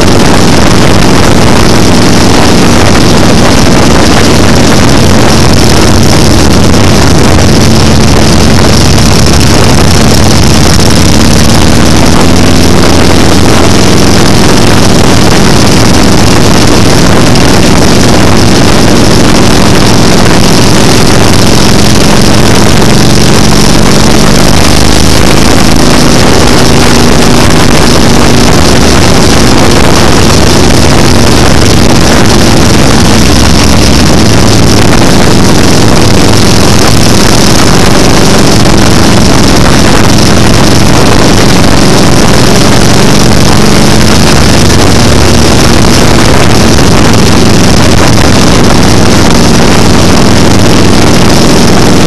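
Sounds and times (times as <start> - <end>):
motorcycle engine cruising: 0.0 - 52.0
wind rush on microphone: 0.0 - 52.0.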